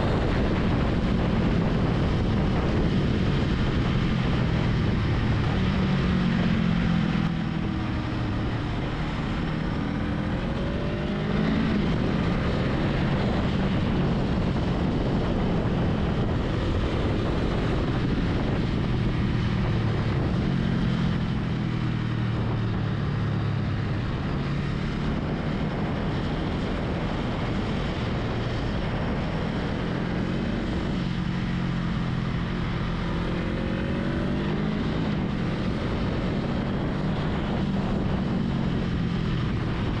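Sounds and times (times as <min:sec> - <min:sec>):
motorcycle engine revving: 0:00.0 - 0:40.0
wind and road noise: 0:00.0 - 0:40.0.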